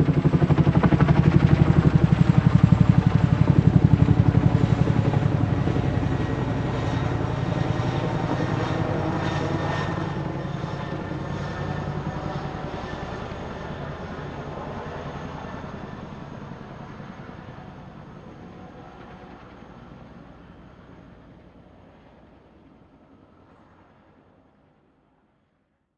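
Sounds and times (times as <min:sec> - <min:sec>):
helicopter rotor and engine: 0:00.0 - 0:25.5.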